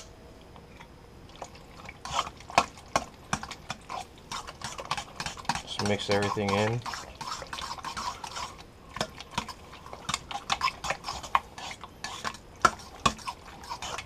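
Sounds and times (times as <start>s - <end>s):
metal spoon stirring paste in bowl: 1.8s - 14.0s.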